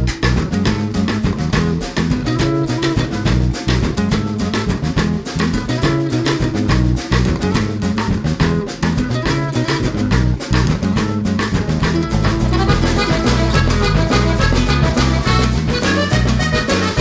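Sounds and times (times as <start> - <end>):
background music with guitar and drums: 0.0 - 17.0.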